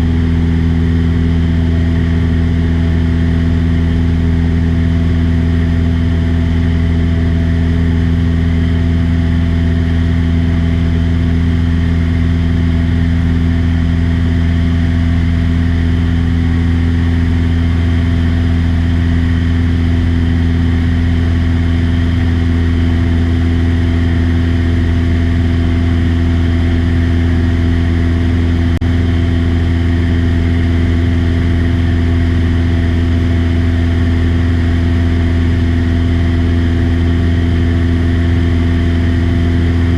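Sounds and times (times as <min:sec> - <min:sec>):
propeller airplane engine humming: 0:00.0 - 0:39.9.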